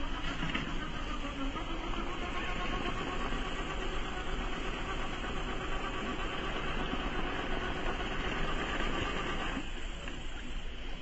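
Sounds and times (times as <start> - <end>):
electric motor and gears whirring: 0.0 - 10.6.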